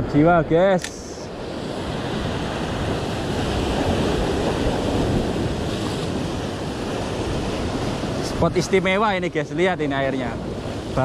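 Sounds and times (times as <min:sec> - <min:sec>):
waves breaking on rocks: 0:00.8 - 0:11.0.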